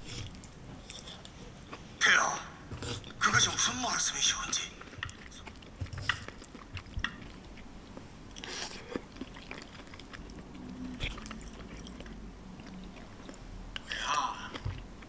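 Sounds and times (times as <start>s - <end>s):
person chewing food: 0.0s - 2.0s, 2.7s - 3.7s, 4.4s - 15.0s.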